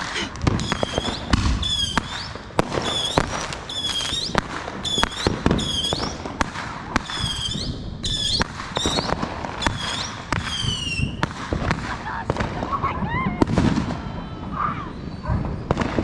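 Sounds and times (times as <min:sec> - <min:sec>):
firework bangs and pops: 0:00.0 - 0:16.0
shrill firework whistles: 0:00.6 - 0:06.2, 0:07.0 - 0:11.3, 0:12.8 - 0:16.0.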